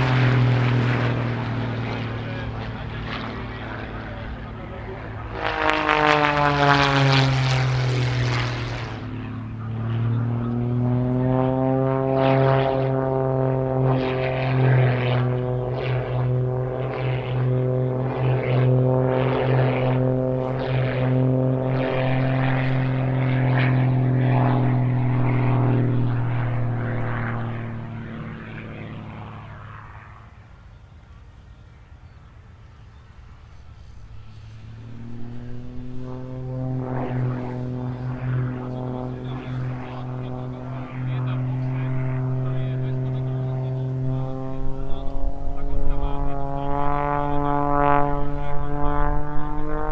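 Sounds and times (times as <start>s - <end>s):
propeller aircraft engine: 0.0s - 49.9s.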